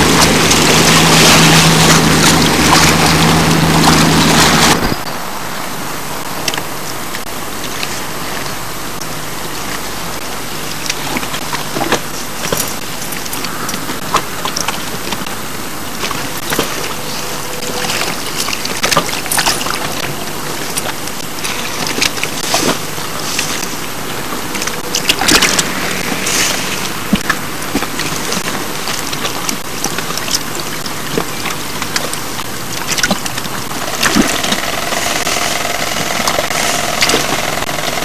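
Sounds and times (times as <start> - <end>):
steady rushing hiss: 0.0 - 32.8, 33.4 - 38.0.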